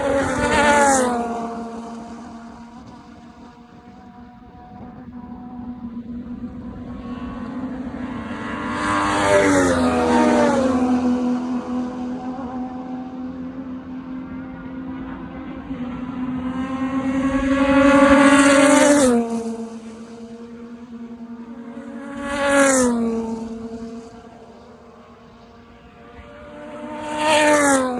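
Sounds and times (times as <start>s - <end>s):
race cars passing at speed: 0.0s - 27.9s
steady engine drone: 0.0s - 27.9s.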